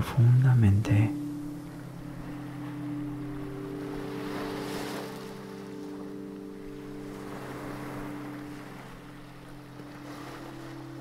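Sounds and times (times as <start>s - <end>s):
soft background music chord: 0.0s - 11.0s
sea waves washing onto shore: 0.4s - 11.0s.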